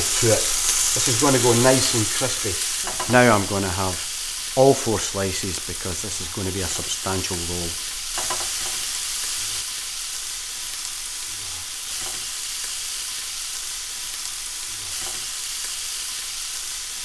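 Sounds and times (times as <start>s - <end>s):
bacon sizzling in a frying pan: 0.0s - 17.0s.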